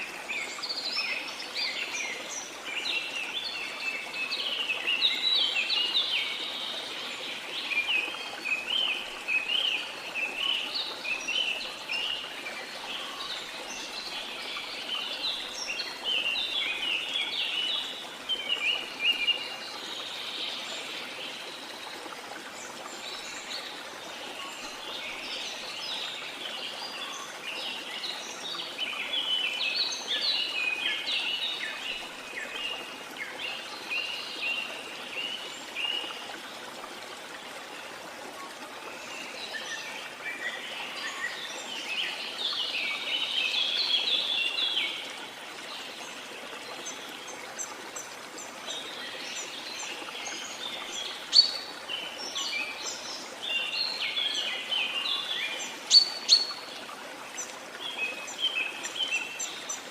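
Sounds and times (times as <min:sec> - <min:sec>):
flowing water: 0:00.0 - 0:59.9
songbirds chirping: 0:00.0 - 0:59.9.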